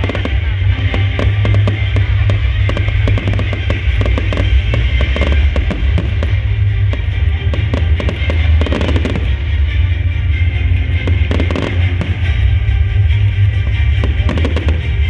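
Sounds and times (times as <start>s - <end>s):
deep continuous rumble: 0.0s - 15.0s
fireworks bangs and crackles: 0.0s - 15.0s
music playing: 0.0s - 15.0s.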